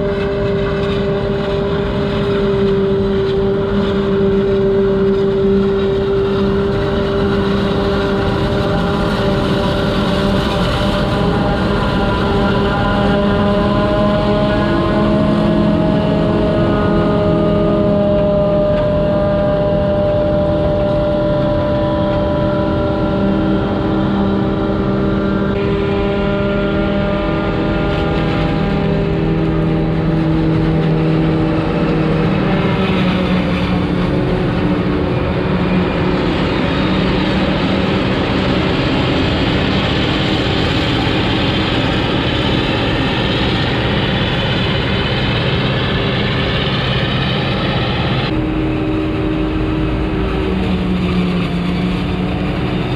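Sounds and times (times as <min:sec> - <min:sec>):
tractor engine: 0:00.0 - 0:52.9.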